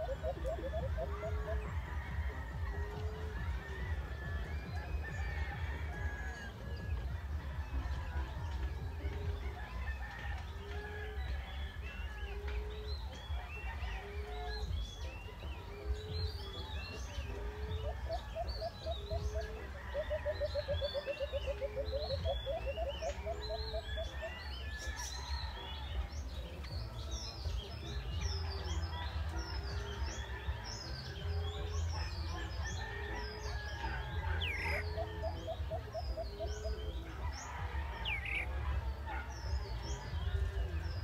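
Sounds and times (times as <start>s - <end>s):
dove cooing: 0.0s - 41.0s
small birds chirping: 0.0s - 41.0s.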